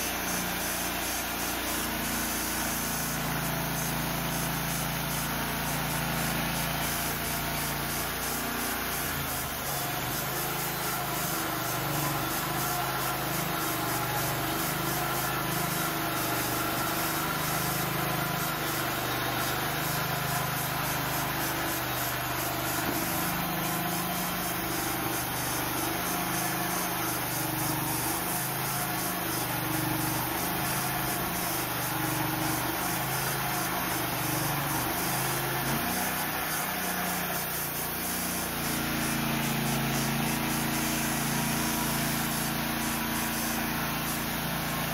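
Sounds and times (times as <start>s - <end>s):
sawmill engine running: 0.0s - 44.9s.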